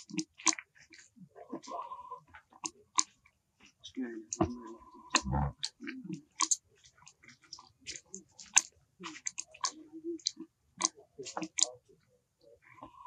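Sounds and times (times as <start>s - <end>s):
monkey chewing clicks and smacks: 0.0s - 1.7s, 2.3s - 11.9s.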